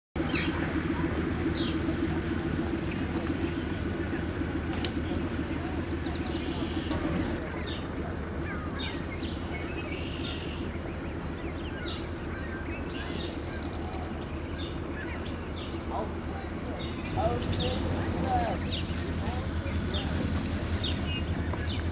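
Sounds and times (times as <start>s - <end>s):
low background hum: 0.2s - 21.9s.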